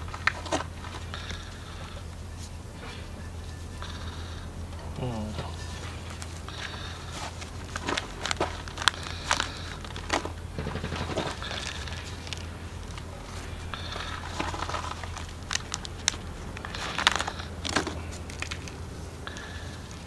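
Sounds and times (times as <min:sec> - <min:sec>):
plastic pot crinkling and rustling: 0:00.0 - 0:20.0
steady low hum: 0:00.0 - 0:20.0.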